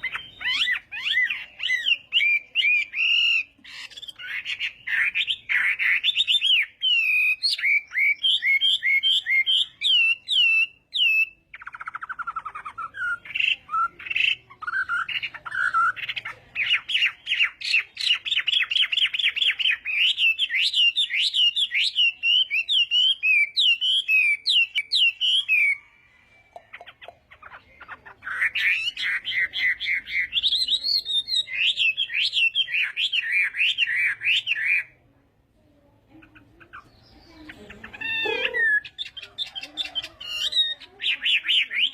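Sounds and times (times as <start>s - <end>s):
bird singing whistled phrases and trills: 0.0s - 26.0s, 26.8s - 35.0s, 36.2s - 41.9s.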